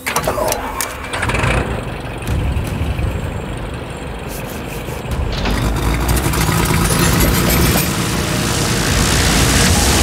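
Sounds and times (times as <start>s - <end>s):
high engine whine: 0.0s - 10.0s
turboprop engine starting and running: 0.0s - 10.0s.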